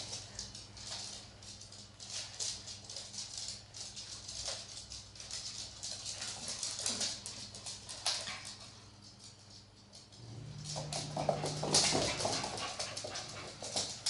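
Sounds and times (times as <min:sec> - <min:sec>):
dog claws scrabbling on floor: 0:00.0 - 0:14.0.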